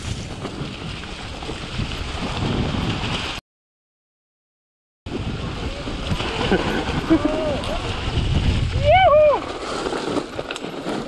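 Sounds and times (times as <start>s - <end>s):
bike tyres rolling over dirt: 0.0s - 3.4s, 5.1s - 11.0s
wind noise on microphone: 0.0s - 3.4s, 5.1s - 10.9s.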